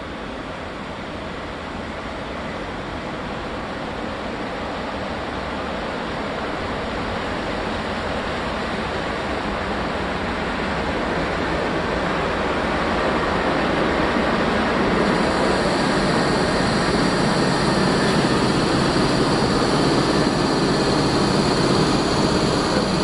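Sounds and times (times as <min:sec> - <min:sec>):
train rushing along track: 0:00.0 - 0:23.0.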